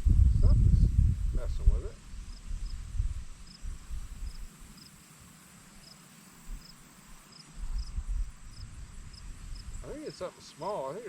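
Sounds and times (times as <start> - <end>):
insect chirping: 2.0 - 11.0.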